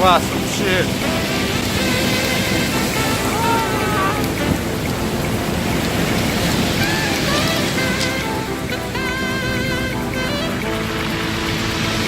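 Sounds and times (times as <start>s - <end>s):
faint melodic tones: 0.0s - 12.0s
sea surf rushing: 0.0s - 12.0s.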